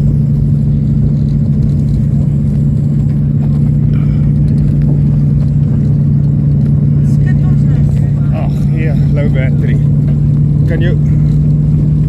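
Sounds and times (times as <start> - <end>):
aircraft engine drone in cabin: 0.0 - 12.0.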